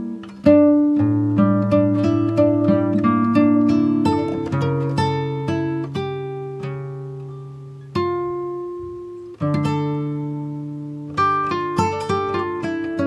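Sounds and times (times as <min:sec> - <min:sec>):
plucked string instrument music: 0:00.0 - 0:13.0.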